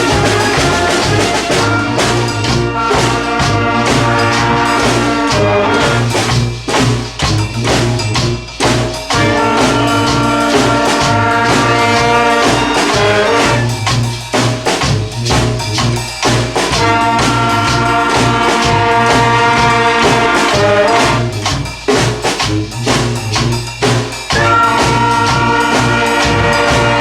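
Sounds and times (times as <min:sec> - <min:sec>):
brass band horns playing chords: 0:00.0 - 0:27.0
steady drum beat: 0:00.0 - 0:27.0.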